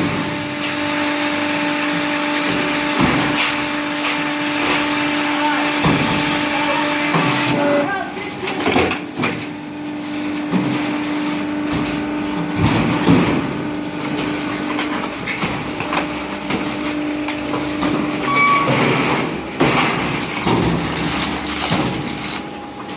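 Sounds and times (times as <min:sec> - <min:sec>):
machine motor humming: 0:00.0 - 0:22.9.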